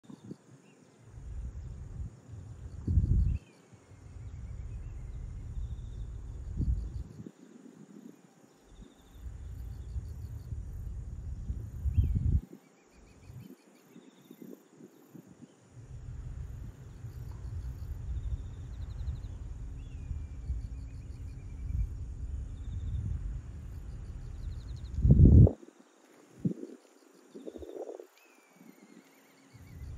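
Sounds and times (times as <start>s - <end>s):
wind rumbling on microphone: 0.0s - 29.9s
insects trilling: 0.1s - 29.9s.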